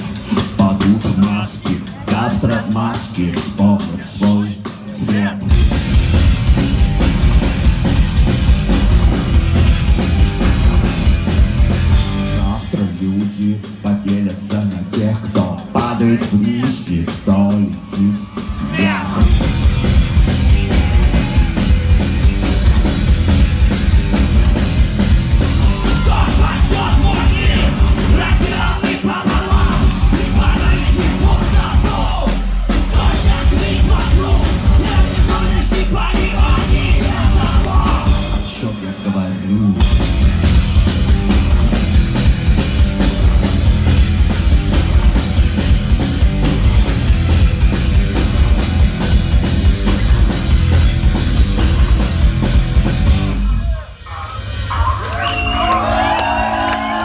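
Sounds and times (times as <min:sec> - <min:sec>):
driving drum kit: 0:00.0 - 0:57.0
rock band playing live: 0:00.0 - 0:57.0
yelled vocals: 0:00.0 - 0:57.0.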